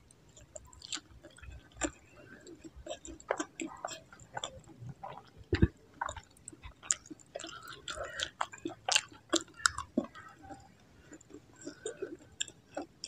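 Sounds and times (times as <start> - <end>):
chewing clicks and smacks: 0.0 - 13.0.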